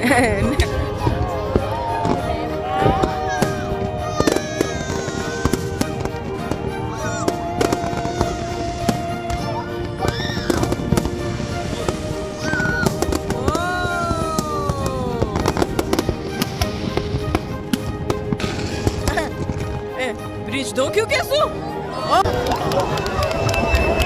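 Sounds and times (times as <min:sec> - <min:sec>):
fireworks bangs and crackles: 0:00.0 - 0:20.4
music playing: 0:00.0 - 0:24.0.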